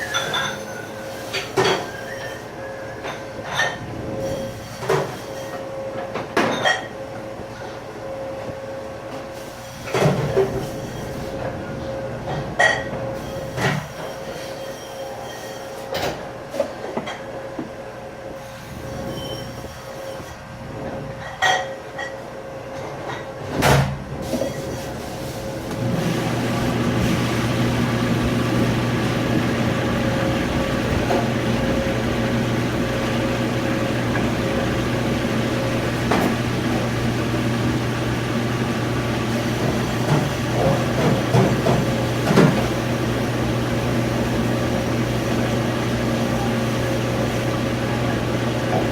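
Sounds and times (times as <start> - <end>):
dishwasher machine running: 0.0 - 8.2, 9.1 - 17.3, 23.1 - 48.9.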